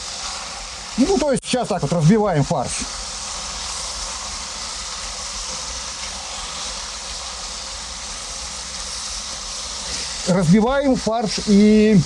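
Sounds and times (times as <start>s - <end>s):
meat sizzling in a pot: 0.0s - 12.0s.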